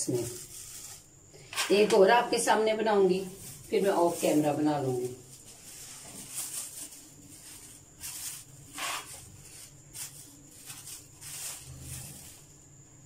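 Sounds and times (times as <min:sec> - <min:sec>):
cling film crinkling: 0:00.0 - 0:01.1, 0:03.1 - 0:12.6.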